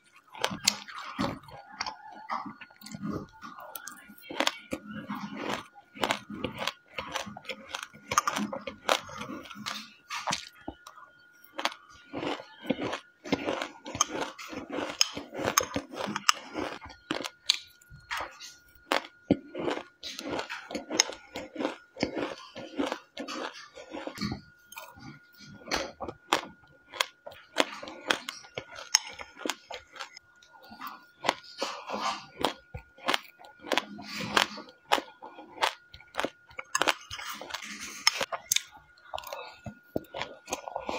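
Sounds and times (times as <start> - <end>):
chewing and crunching seeds: 0.0 - 40.9.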